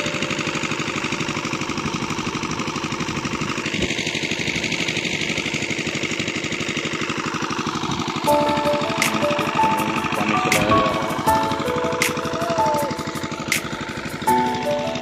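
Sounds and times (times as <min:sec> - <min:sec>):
irrigation pump engine running: 0:00.0 - 0:15.0.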